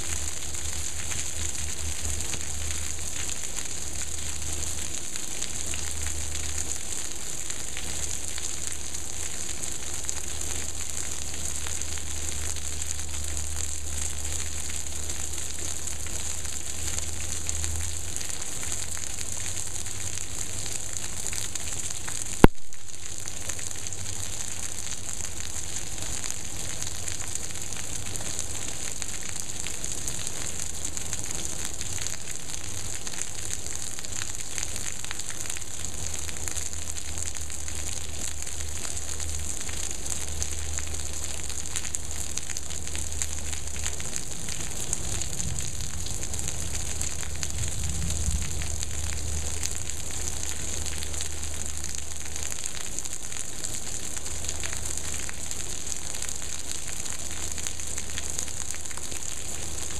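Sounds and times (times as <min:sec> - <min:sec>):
heavy rain falling on water: 0:00.0 - 0:59.9.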